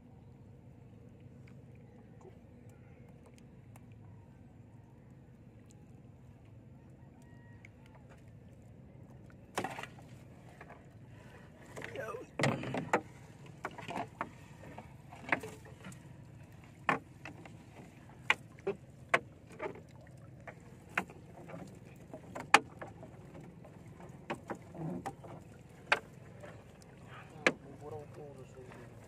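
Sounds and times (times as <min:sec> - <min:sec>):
faint low hum: 0:00.0 - 0:24.2.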